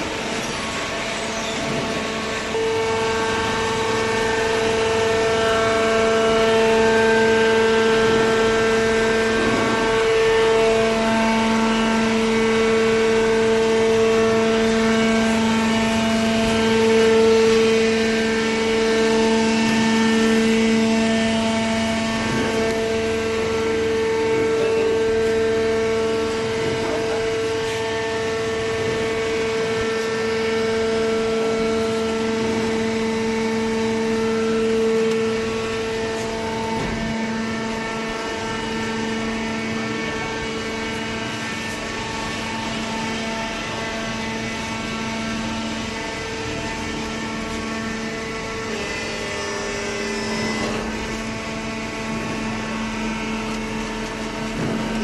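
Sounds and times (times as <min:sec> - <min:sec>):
baler machine humming: 0:00.0 - 0:55.0.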